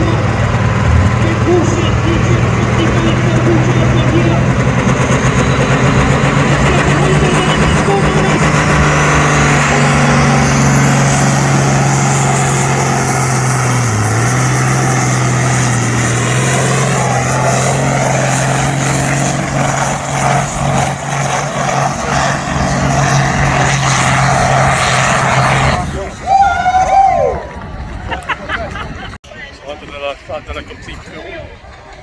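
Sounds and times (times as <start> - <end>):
tractor engine running hard: 0.0 - 26.1
high turbo whine: 0.0 - 28.0.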